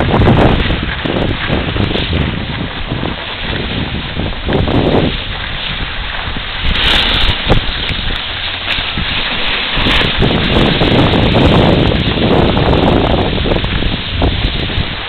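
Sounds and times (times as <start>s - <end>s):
snowboard sliding on snow: 0.0s - 15.0s
wind on microphone: 0.0s - 15.0s.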